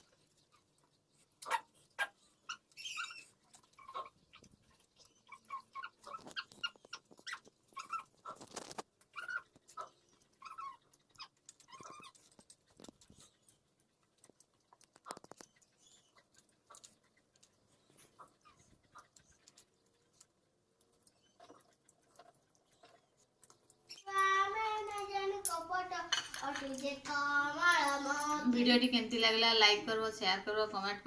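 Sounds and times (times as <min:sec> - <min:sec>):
chewing fruit: 0:00.0 - 0:25.2.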